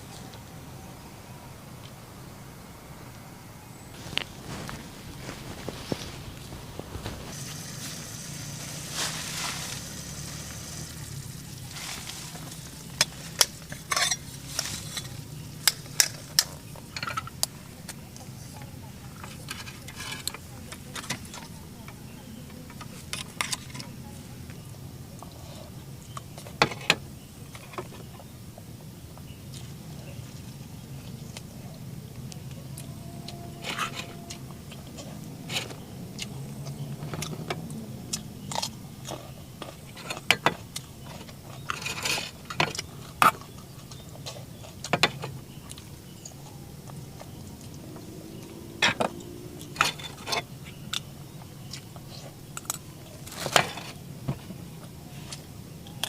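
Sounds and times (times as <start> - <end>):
low background rumble: 0.0 - 56.0.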